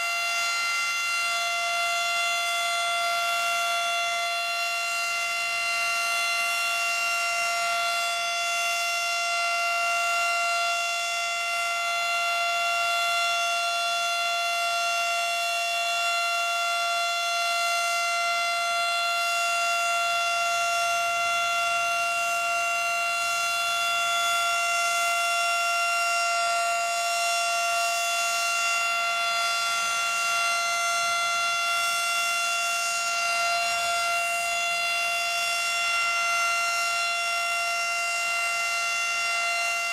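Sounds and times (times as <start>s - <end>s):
steady warning siren: 0.0s - 39.9s.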